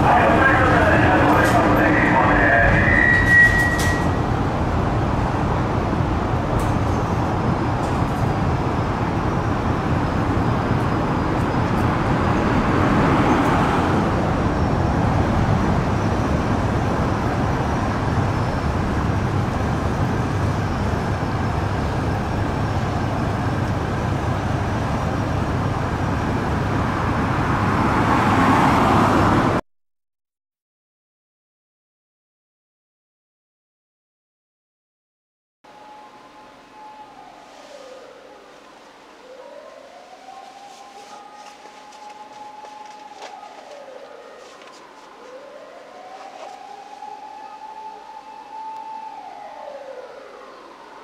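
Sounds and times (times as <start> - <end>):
road traffic noise: 0.0 - 29.6, 35.7 - 51.0
vehicles passing: 0.0 - 29.6, 35.7 - 51.0.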